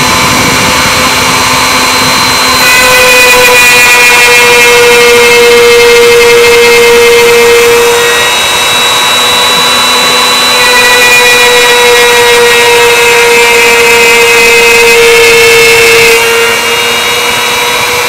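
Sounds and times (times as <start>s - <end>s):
hiss of bit cutting wood: 0.0s - 18.0s
router motor whining: 0.0s - 18.0s.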